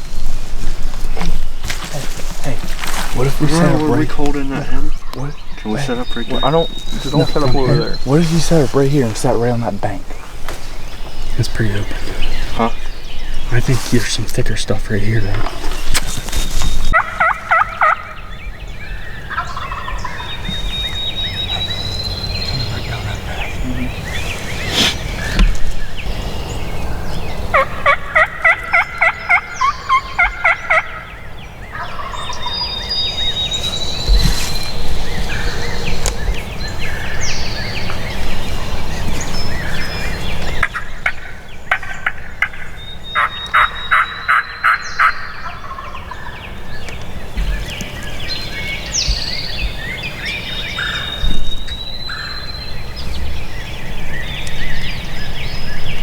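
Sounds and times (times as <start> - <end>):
songbirds whistling: 0.0 - 56.0
turkey calling: 1.1 - 15.9, 16.9 - 52.7.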